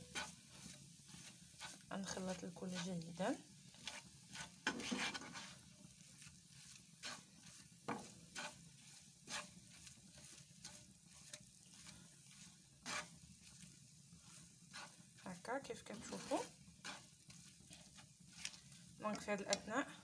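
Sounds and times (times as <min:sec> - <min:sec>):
faint sizzle: 0:00.0 - 0:20.0
spatula scraping frying pan: 0:00.0 - 0:20.0.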